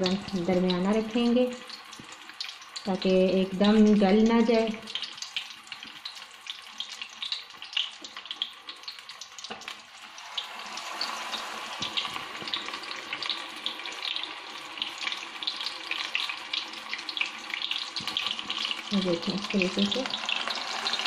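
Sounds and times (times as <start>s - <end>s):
fish deep-frying in hot oil: 0.0s - 21.0s.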